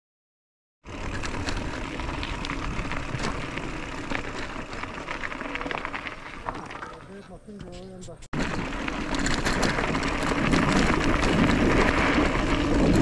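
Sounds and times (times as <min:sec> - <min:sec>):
bike rattling and clicking: 0:00.8 - 0:13.0
tyres crunching over gravel: 0:00.8 - 0:13.0.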